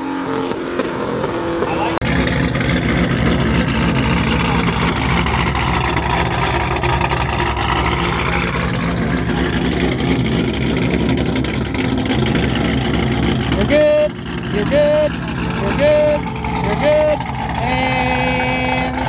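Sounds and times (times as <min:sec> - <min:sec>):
car engine idling low: 0:02.0 - 0:19.0.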